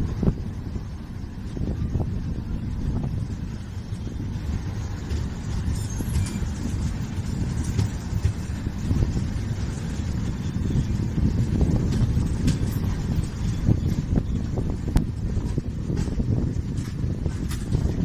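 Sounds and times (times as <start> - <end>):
train rumbling: 0.0 - 18.0
wind buffeting microphone: 0.0 - 18.0.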